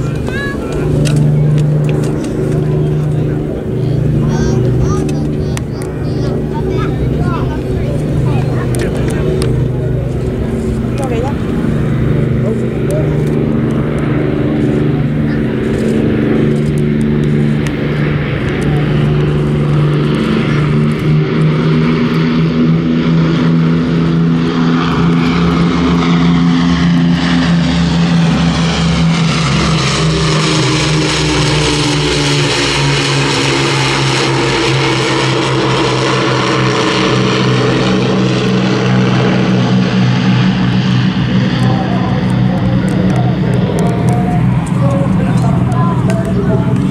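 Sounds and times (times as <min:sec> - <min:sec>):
propeller plane engines droning: 0:00.0 - 0:46.9.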